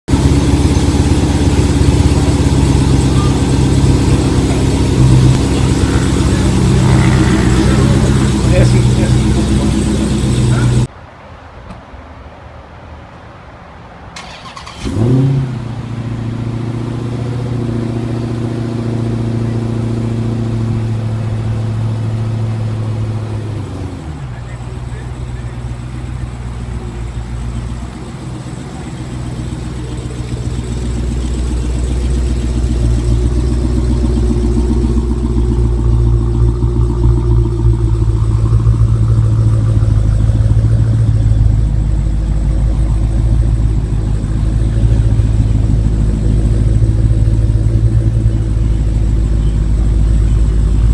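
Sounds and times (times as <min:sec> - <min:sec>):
car engine idling: 0:00.0 - 0:10.9, 0:14.2 - 0:50.9.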